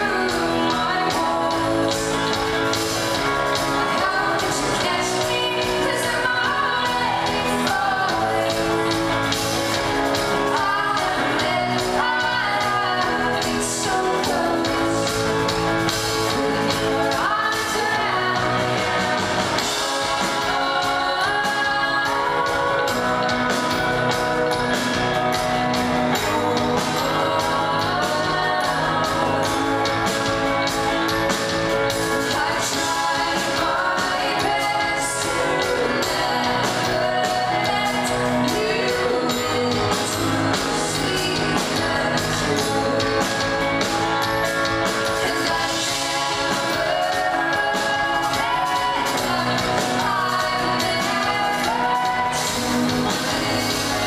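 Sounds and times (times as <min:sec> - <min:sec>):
pop-rock band playing: 0:00.0 - 0:54.0
woman singing: 0:00.0 - 0:54.0.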